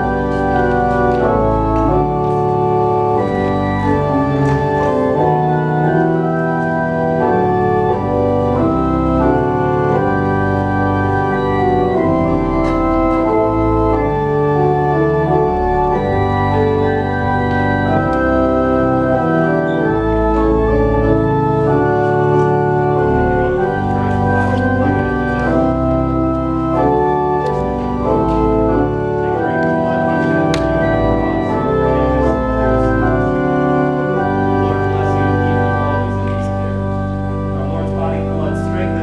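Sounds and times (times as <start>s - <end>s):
church organ playing chords: 0.0s - 39.0s.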